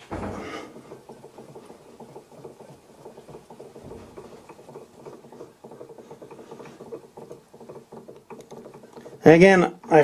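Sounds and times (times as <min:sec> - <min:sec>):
lathe rattling and ticking: 0:00.0 - 0:10.0.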